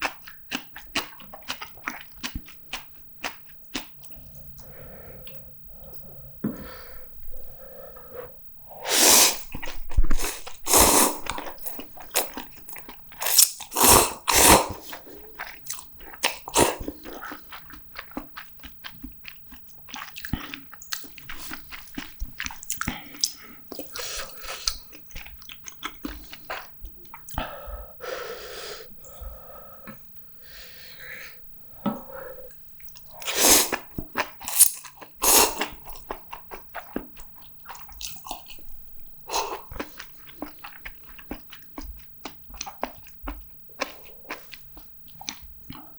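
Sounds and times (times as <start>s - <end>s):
close-miked chewing and biting: 0.0s - 6.2s, 8.8s - 27.7s, 31.7s - 45.9s.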